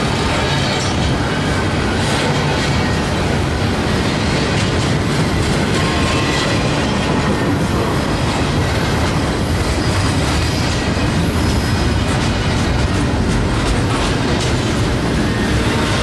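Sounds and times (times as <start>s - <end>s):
train rumbling past: 0.0s - 16.0s
wheels clattering over rails: 0.0s - 16.0s.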